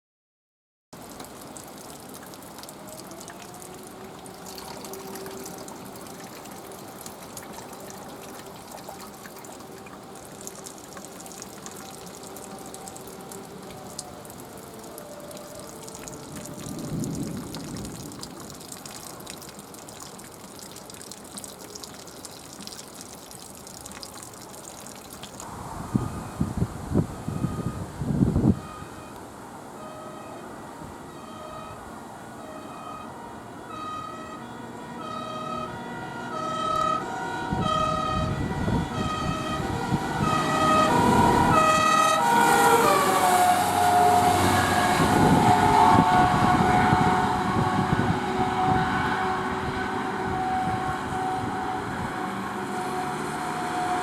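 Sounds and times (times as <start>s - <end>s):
distant fire alarm siren: 1.0s - 54.0s.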